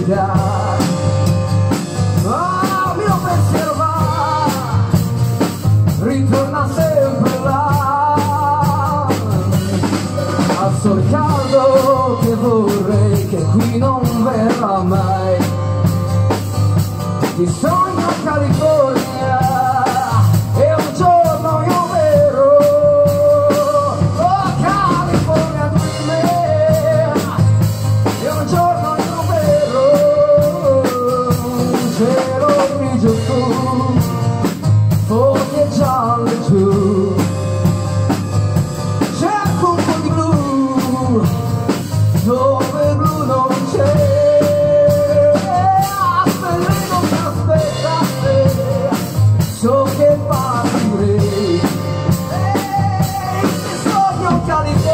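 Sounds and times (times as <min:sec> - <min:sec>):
live rock band playing: 0:00.0 - 0:54.9.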